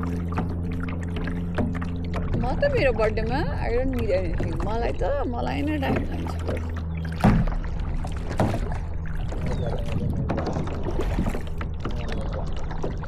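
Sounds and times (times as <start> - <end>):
kayak knocks: 0.0 - 4.9, 5.7 - 13.0
water splashes: 0.0 - 13.0.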